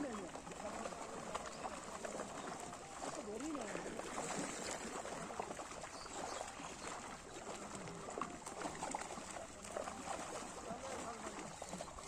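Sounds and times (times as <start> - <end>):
water trickling around net: 0.0 - 12.0.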